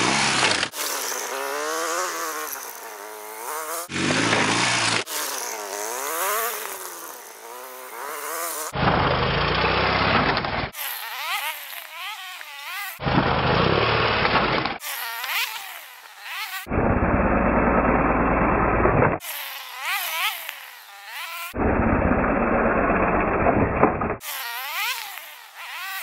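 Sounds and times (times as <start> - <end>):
motorcycle engine revving: 0.0 - 12.0, 12.9 - 20.4, 21.0 - 25.2.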